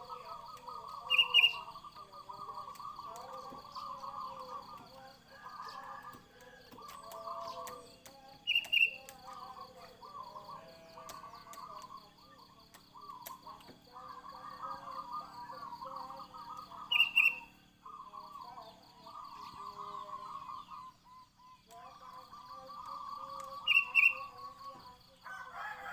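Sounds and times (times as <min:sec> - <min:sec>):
birds chattering and warbling: 0:00.0 - 0:25.9.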